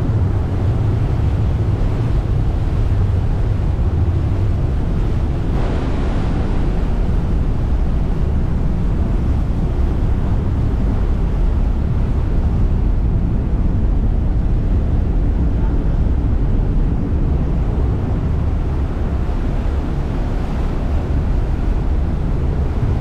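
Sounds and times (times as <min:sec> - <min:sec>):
ferry engine rumble: 0:00.0 - 0:23.0
rushing water: 0:00.0 - 0:23.0
wind buffeting microphone: 0:00.0 - 0:23.0.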